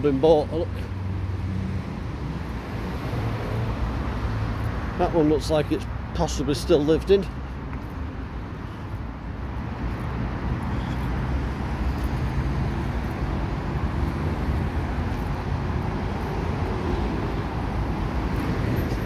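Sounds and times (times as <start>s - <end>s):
rumble of passing vehicles: 0.0s - 19.0s.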